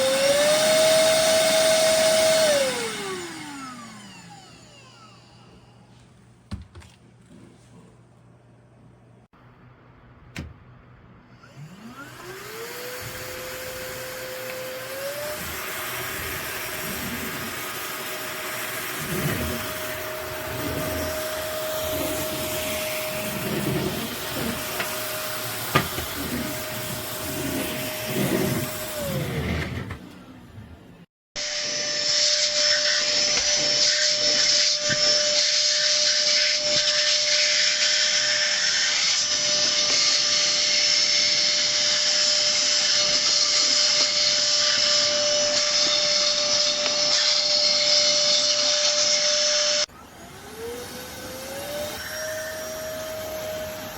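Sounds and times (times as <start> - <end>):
vacuum cleaner motor whining: 0.0 - 6.0, 11.4 - 53.9.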